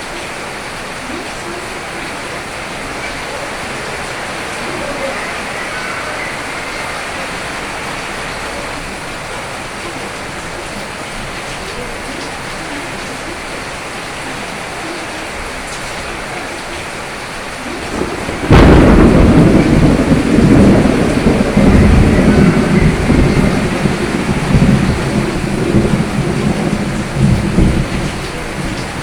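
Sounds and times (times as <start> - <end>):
rain falling: 0.0 - 29.0
thunder crack and rumble: 1.9 - 13.3, 16.8 - 29.0.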